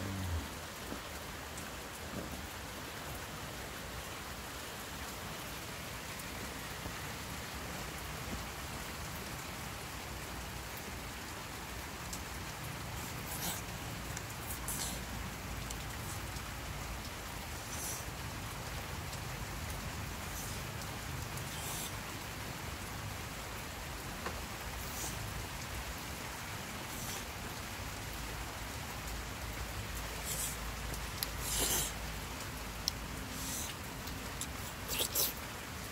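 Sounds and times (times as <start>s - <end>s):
steady hiss: 0.0s - 35.9s.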